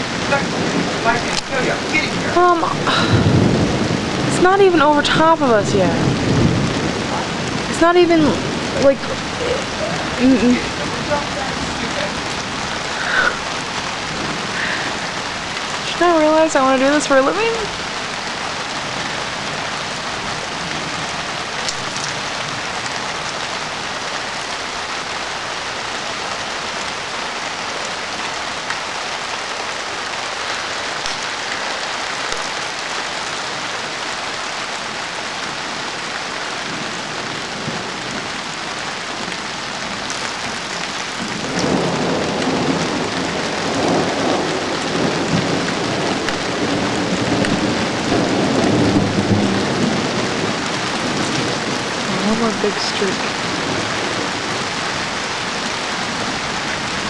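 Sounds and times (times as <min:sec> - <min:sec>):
rolling thunder: 0:00.0 - 0:25.7, 0:36.6 - 0:57.0
heavy rain: 0:00.0 - 0:57.0.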